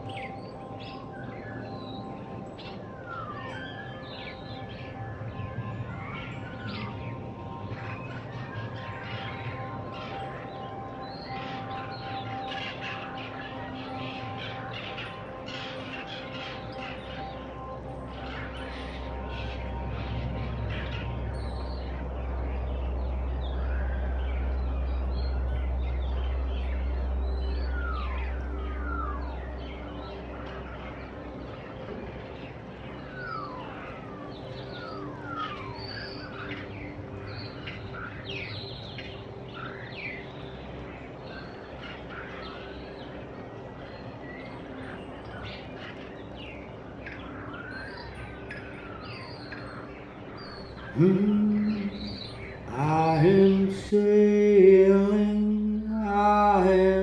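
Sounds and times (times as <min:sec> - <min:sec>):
starlings chirping and calling: 0:00.0 - 0:57.0.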